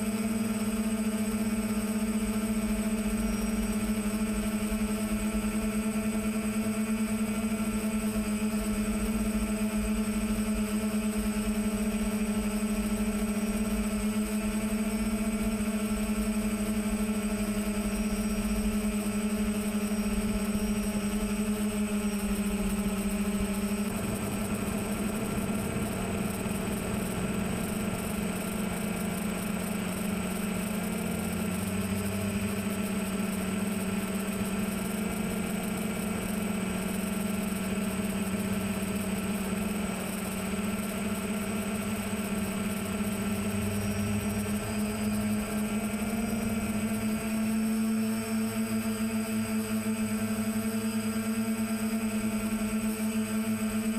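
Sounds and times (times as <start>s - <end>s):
drone propellers humming: 0.0s - 53.9s.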